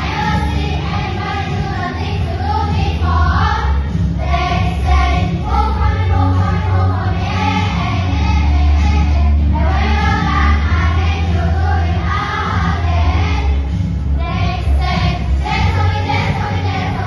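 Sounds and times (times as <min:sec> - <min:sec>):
backing track with heavy bass: 0:00.0 - 0:17.0
children's choir singing: 0:00.0 - 0:17.0.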